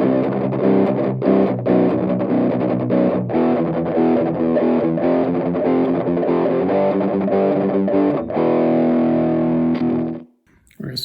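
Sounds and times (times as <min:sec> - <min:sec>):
distorted electric guitar chords: 0:00.0 - 0:10.3.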